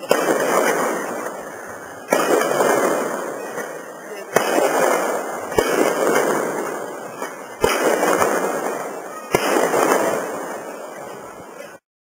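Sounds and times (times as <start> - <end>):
fireworks bangs: 0.0 - 11.8
fireworks crackle: 0.0 - 11.8.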